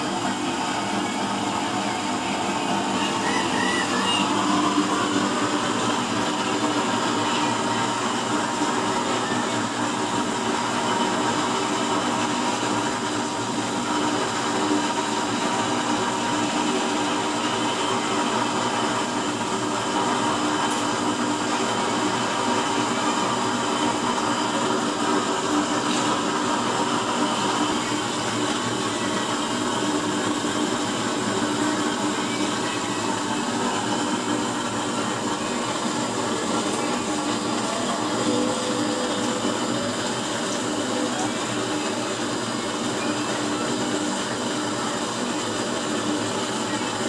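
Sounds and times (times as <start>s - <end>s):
stove forced air and flame rushing: 0.0s - 47.0s.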